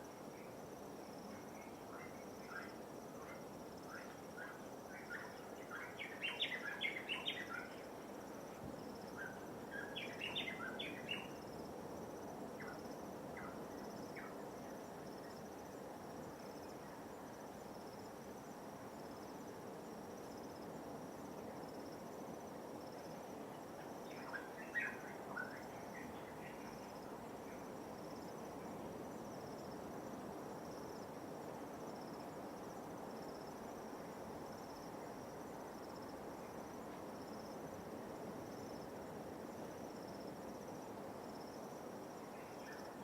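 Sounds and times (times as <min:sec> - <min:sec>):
insects trilling: 0:00.0 - 0:43.0.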